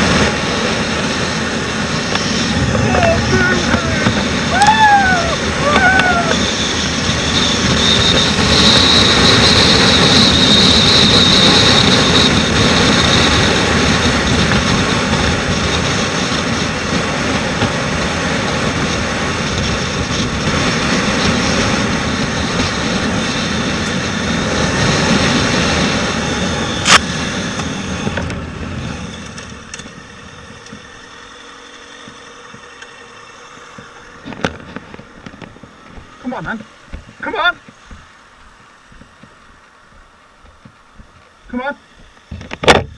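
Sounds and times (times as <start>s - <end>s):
motorcycle engine: 0.0s - 42.9s
rushing wind: 0.0s - 42.9s.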